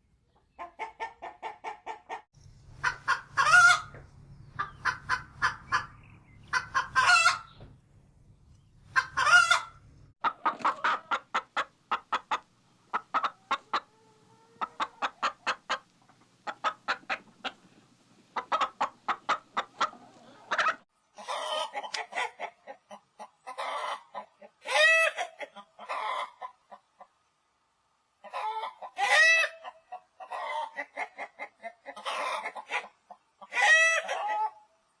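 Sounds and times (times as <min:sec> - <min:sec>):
chickens clucking: 0:00.3 - 0:07.8, 0:08.9 - 0:27.3, 0:28.2 - 0:34.6
chickens squawking: 0:02.8 - 0:04.0, 0:04.6 - 0:07.6, 0:08.9 - 0:26.8, 0:28.2 - 0:34.6.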